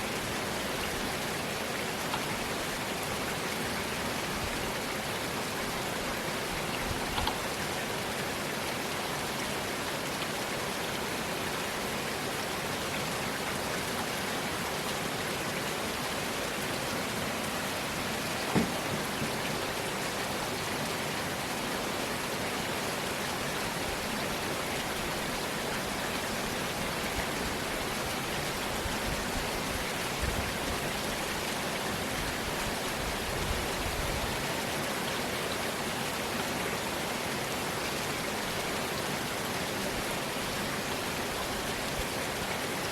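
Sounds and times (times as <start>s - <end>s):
steady rainfall: 0.0s - 42.9s.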